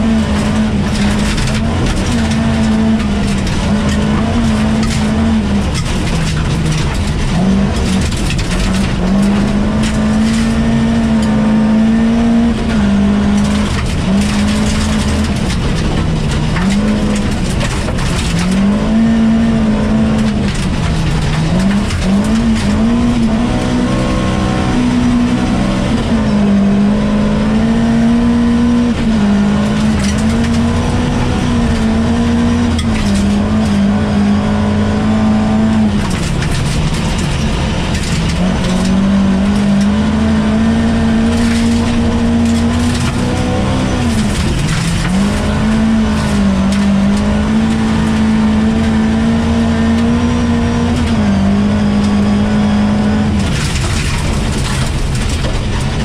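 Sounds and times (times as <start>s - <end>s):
car engine revving hard: 0.0s - 56.0s.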